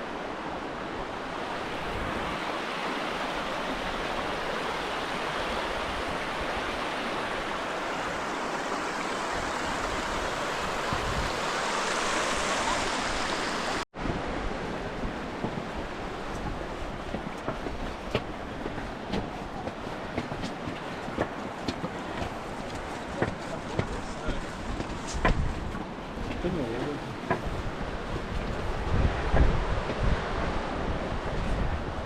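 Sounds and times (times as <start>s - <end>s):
flowing water rushing: 0.0s - 32.0s.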